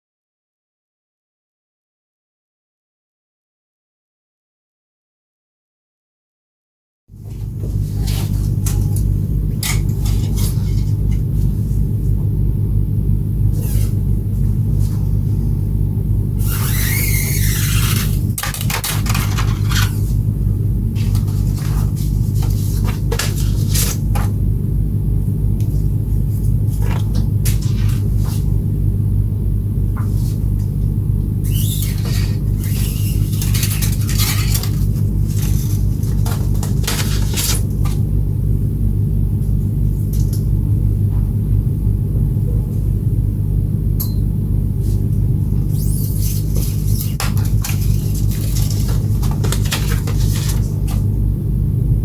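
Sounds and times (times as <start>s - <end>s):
low hum: 7.1s - 52.0s.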